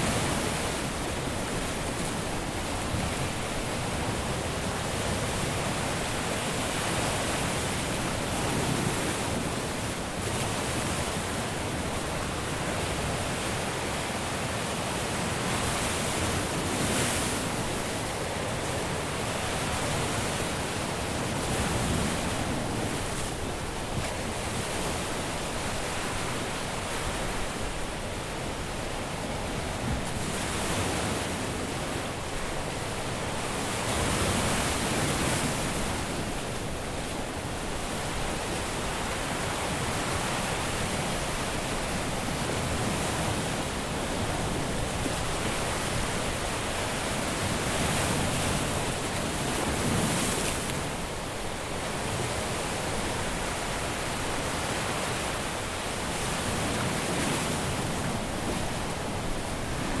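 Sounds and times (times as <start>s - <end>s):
surf breaking on a beach: 0.0s - 60.0s.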